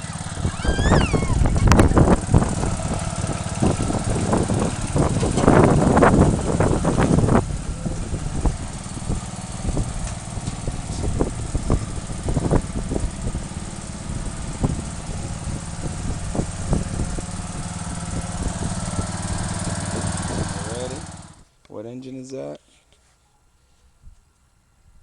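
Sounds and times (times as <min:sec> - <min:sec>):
riding lawn mower engine: 0:00.0 - 0:21.5.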